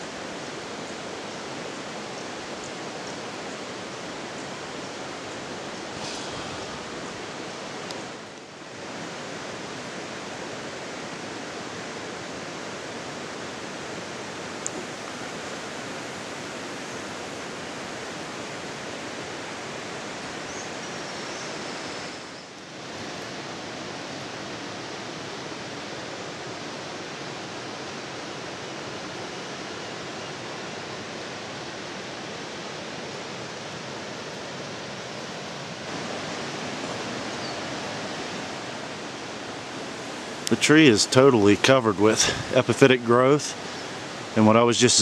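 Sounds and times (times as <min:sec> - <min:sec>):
steady outdoor rushing noise: 0:00.0 - 0:45.0.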